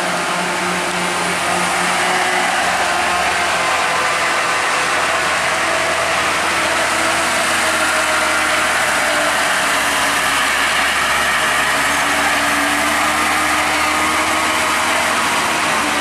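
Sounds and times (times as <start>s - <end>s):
heavy diesel truck engine: 0.0s - 16.0s.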